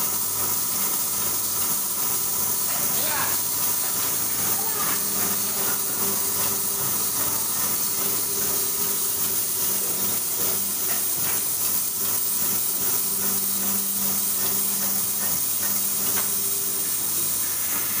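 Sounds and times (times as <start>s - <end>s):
machine hissing: 0.0s - 18.0s
low hum of bowl feeders: 1.8s - 18.0s.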